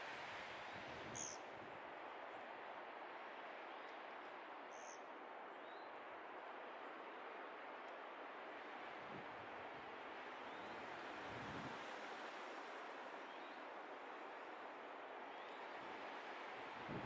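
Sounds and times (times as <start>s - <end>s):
wind hiss: 0.0s - 17.0s.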